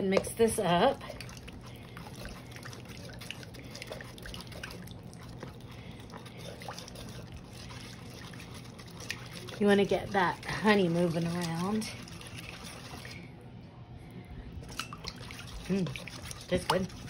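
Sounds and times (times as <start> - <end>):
spoon stirring liquid in metal bowl: 0.0 - 13.4, 14.6 - 17.0.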